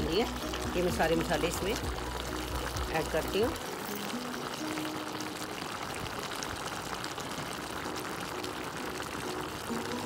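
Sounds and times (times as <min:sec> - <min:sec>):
gravy bubbling and hissing: 0:00.0 - 0:10.0.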